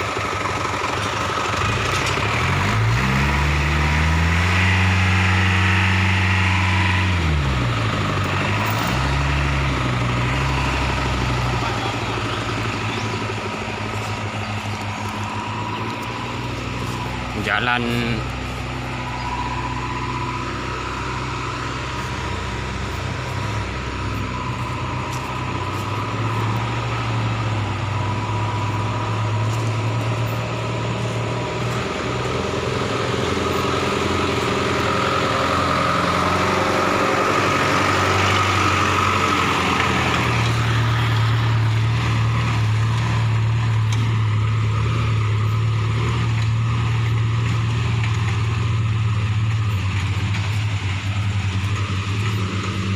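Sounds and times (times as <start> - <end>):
vehicle engine humming: 0.0 - 52.9.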